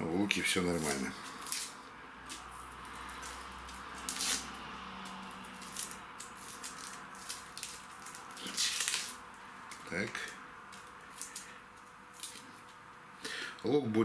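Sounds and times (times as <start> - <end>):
onion skin crackling and rustling: 0.2 - 12.8.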